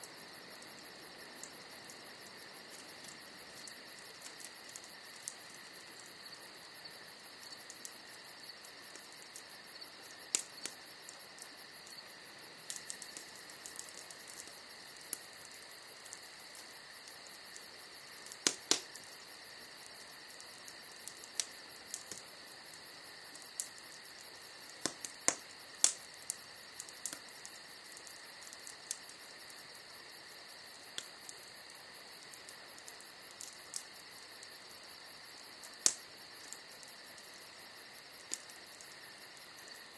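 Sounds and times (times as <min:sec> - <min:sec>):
bonfire wood crackling: 0:00.0 - 0:39.9.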